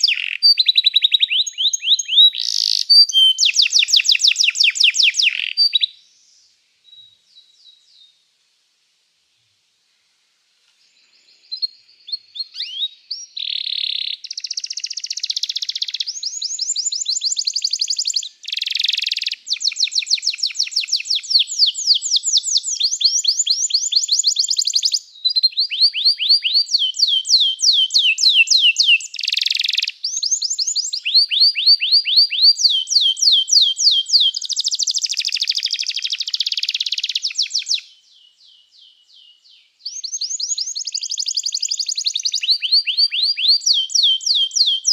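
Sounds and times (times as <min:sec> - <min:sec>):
canary singing trills: 0:00.0 - 0:06.0, 0:11.2 - 0:44.9.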